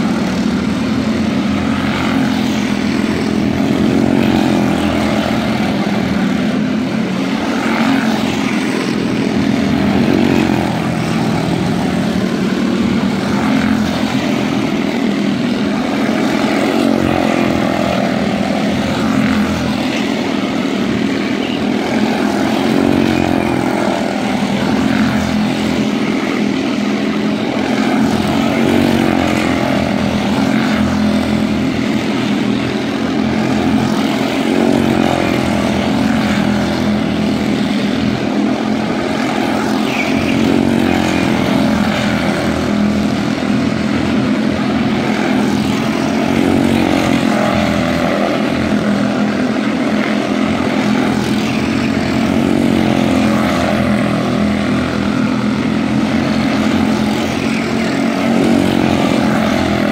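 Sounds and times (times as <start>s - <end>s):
small race car engines buzzing: 0.0s - 59.9s.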